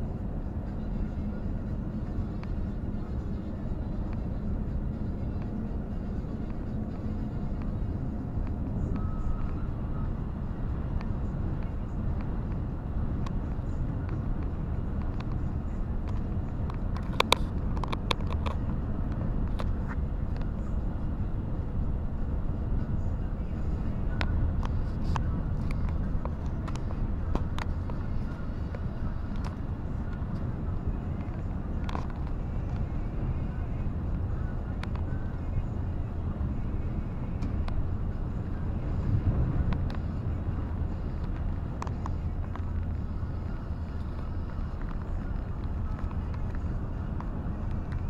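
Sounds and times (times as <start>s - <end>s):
vehicle engine and road rumble: 0.0s - 48.0s.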